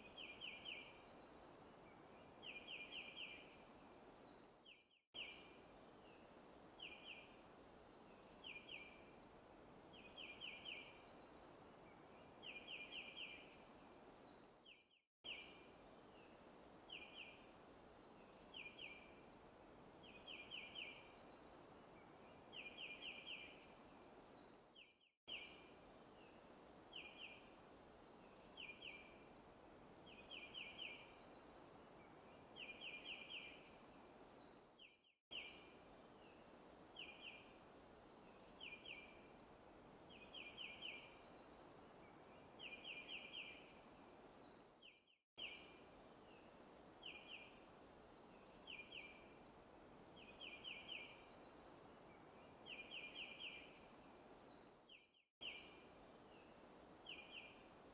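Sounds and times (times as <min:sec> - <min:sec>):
soft steady hiss: 0:00.0 - 0:57.9.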